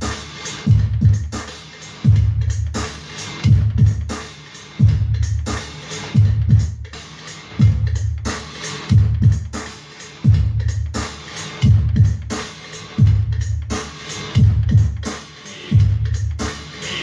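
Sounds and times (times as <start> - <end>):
booming drum machine bass drum: 0.0 - 17.0
electronic dance beat: 0.0 - 17.0.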